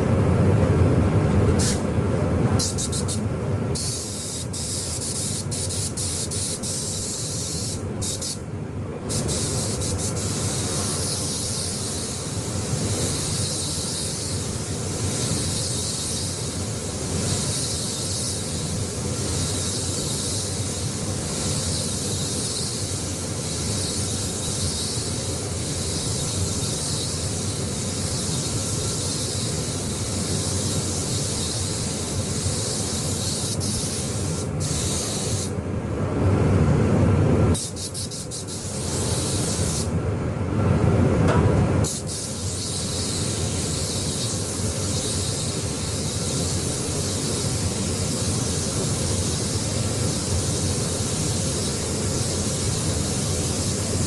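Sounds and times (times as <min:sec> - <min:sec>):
spray gun hissing: 0:01.6 - 0:01.9, 0:02.6 - 0:08.4, 0:09.0 - 0:35.6, 0:37.5 - 0:39.9, 0:41.8 - 0:54.0.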